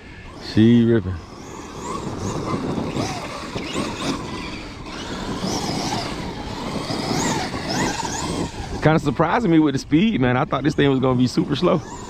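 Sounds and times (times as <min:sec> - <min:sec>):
tyre and ground noise: 0:00.0 - 0:09.7
rc truck electric motor whining: 0:00.0 - 0:12.0.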